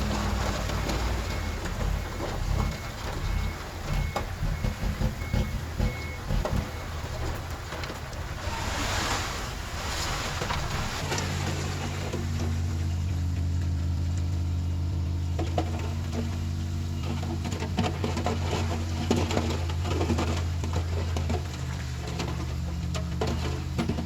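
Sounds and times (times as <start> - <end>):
bulldozer diesel engine humming: 0.0 - 24.0
tracks clanking and rattling: 0.0 - 24.0.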